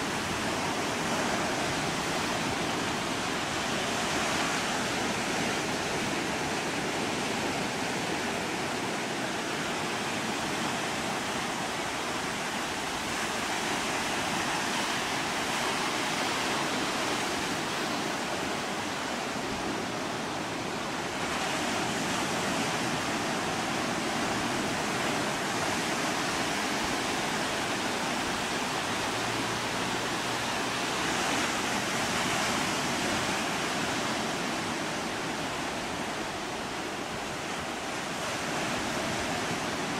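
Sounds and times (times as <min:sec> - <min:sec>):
ocean surf rushing: 0:00.0 - 0:39.9.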